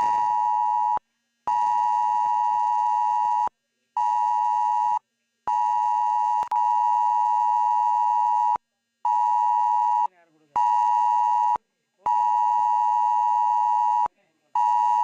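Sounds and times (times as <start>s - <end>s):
phone emergency alert tone: 0.0s - 15.0s.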